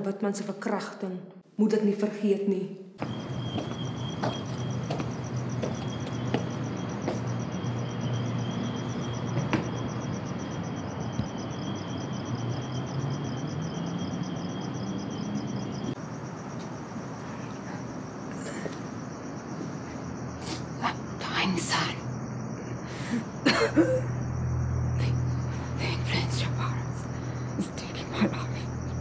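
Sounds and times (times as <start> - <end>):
crickets chirping: 2.4 - 29.0.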